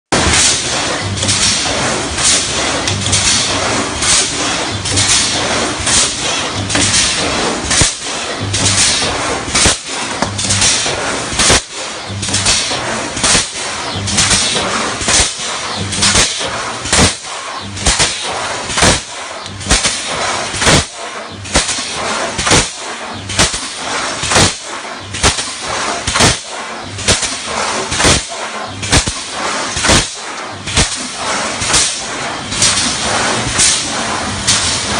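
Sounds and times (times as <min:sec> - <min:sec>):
welding machine clatter: 0:00.1 - 0:34.9
low machine hum: 0:00.2 - 0:34.9
mechanical hiss: 0:00.2 - 0:34.9.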